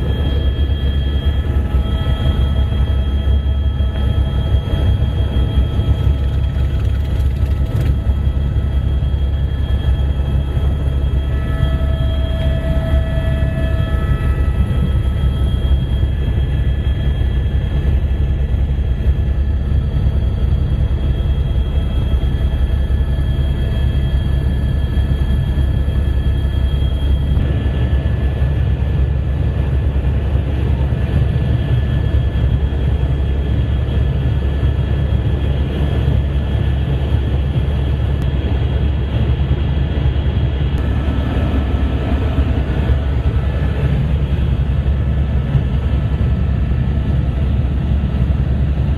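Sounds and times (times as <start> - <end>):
helicopter drone: 0.0 - 48.9.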